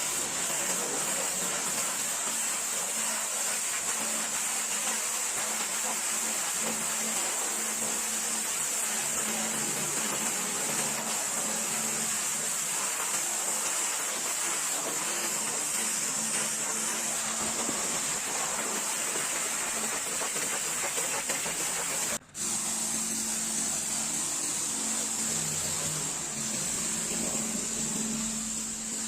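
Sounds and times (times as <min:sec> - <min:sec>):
pressure washer spraying: 0:00.0 - 0:29.0.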